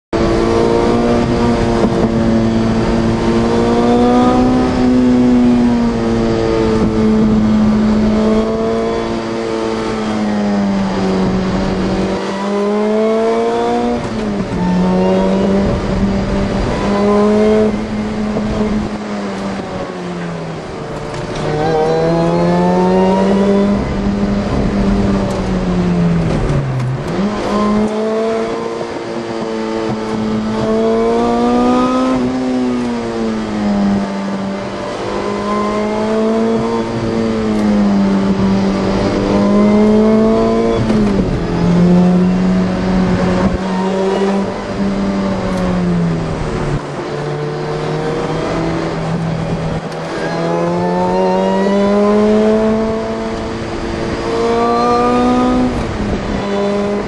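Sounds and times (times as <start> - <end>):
supercharged car engine revving: 0.1 - 57.0.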